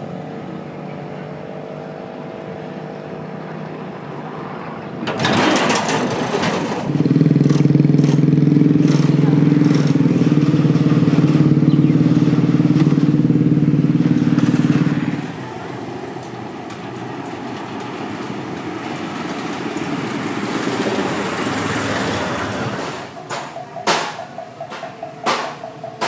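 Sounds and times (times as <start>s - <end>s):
motorbike rolling over bridge deck: 0.0s - 26.0s.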